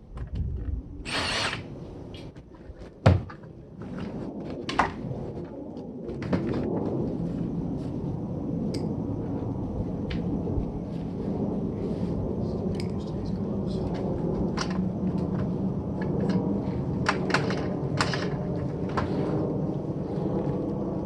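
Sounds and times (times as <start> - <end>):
low rumble: 3.5 - 21.0.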